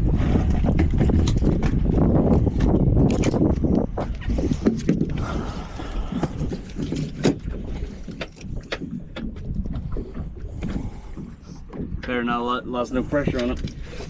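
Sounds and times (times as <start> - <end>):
wind buffeting microphone: 0.0 - 14.0
clicks and knocks handling fish: 0.2 - 14.0.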